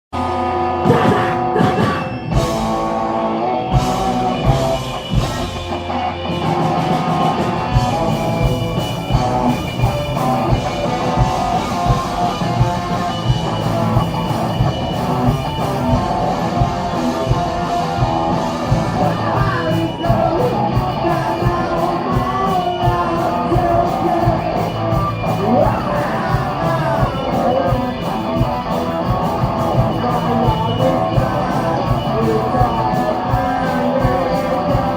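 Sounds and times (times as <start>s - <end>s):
bass: 0.1s - 34.9s
electric guitars: 0.2s - 34.9s
drum kit beat: 0.8s - 34.9s.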